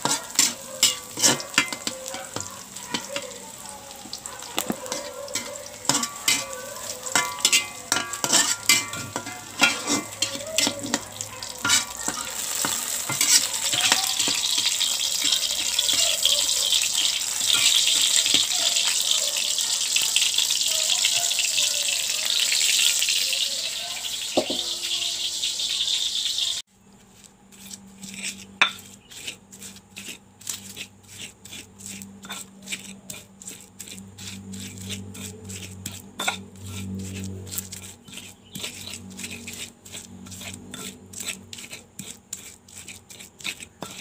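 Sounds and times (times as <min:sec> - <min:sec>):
stone pestle grinding in mortar: 0:00.0 - 0:19.2, 0:27.0 - 0:44.0
food sizzling in hot oil: 0:00.0 - 0:26.7, 0:27.5 - 0:44.0.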